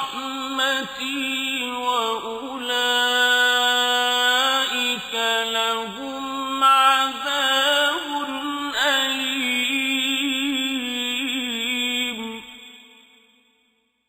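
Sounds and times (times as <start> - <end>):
man chanting melodically: 0.0 - 13.2.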